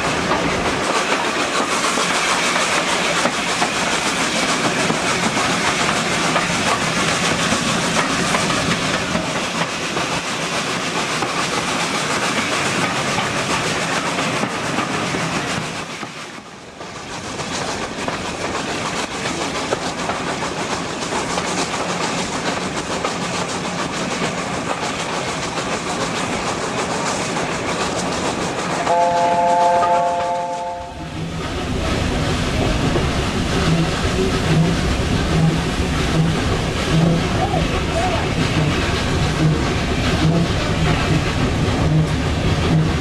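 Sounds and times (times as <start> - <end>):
steam train running noise: 0.0 - 43.0.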